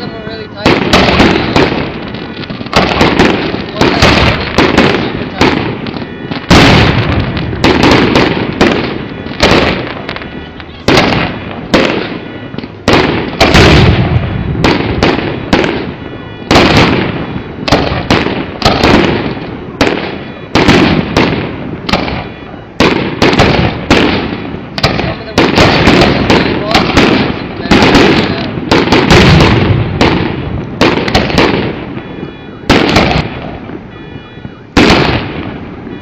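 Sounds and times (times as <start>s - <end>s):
fireworks booming: 0.0s - 36.0s.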